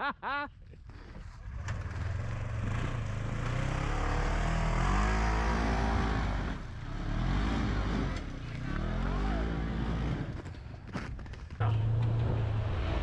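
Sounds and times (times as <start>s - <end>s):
utility vehicle engine revving: 1.3s - 10.6s, 11.6s - 13.0s.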